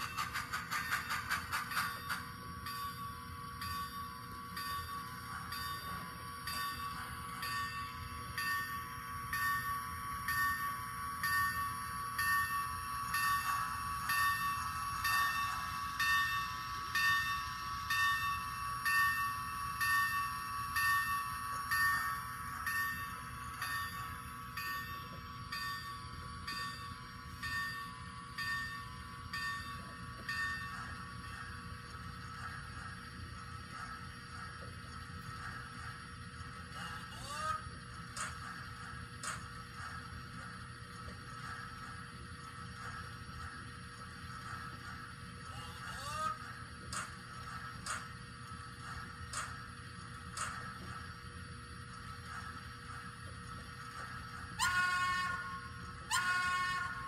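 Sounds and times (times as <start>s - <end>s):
model locomotive high whine: 0.0s - 57.0s.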